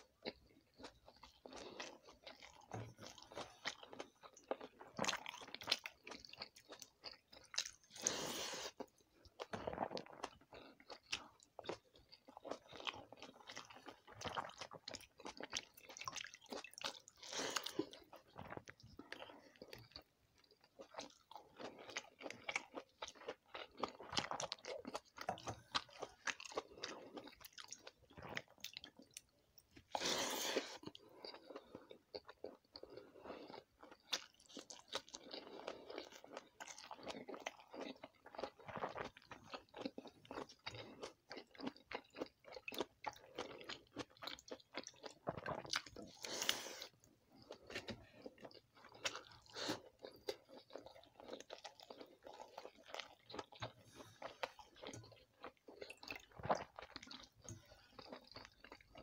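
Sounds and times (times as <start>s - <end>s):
food crunching: 0.0s - 59.0s
wet chewing and smacking: 0.0s - 59.0s.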